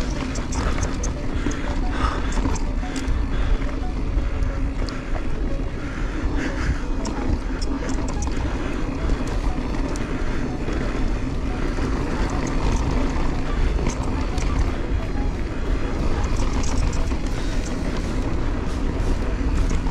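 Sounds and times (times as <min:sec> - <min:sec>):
bike clicks and rattles: 0:00.0 - 0:19.9.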